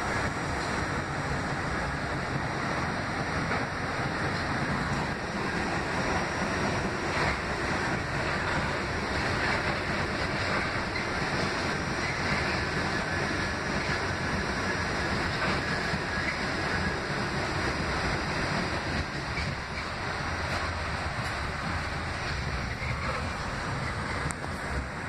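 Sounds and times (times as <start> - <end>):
subway car wheels on rails: 0.0 - 25.0.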